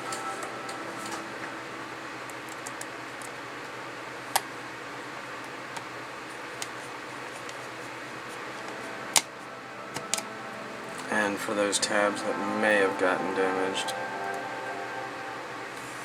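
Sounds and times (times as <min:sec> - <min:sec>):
room hum: 0:00.0 - 0:16.0.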